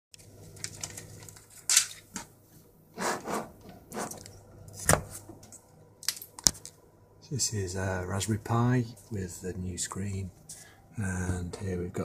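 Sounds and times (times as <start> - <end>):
steady low hum: 0.2 - 12.0.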